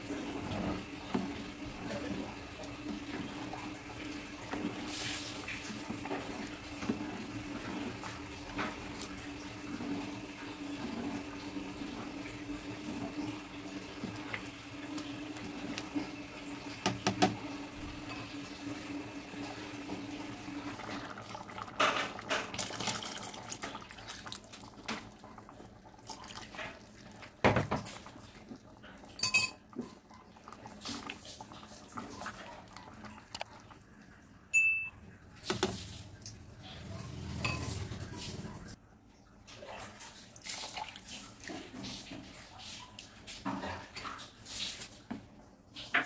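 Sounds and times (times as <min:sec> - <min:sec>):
porridge bubbling in a pot: 0:00.0 - 0:34.5, 0:35.3 - 0:46.0.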